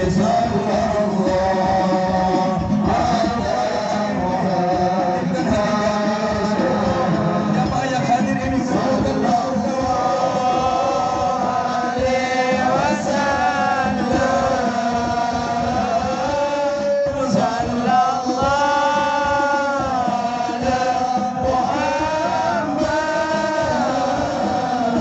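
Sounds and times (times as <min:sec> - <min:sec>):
musical accompaniment: 0:00.0 - 0:25.0
person singing devotional song: 0:00.0 - 0:25.0.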